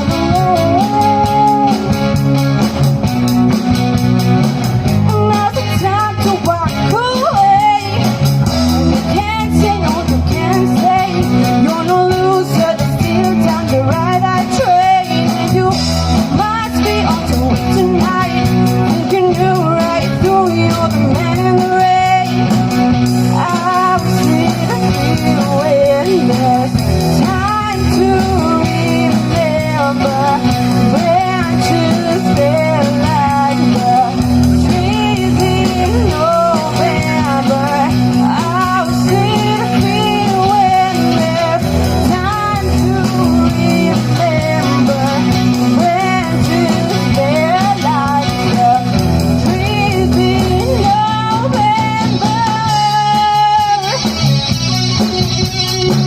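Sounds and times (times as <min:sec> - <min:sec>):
pop-rock song: 0:00.0 - 0:56.0.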